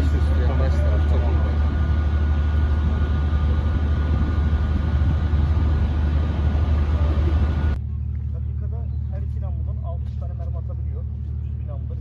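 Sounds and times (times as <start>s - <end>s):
low machinery drone: 0.0s - 12.0s.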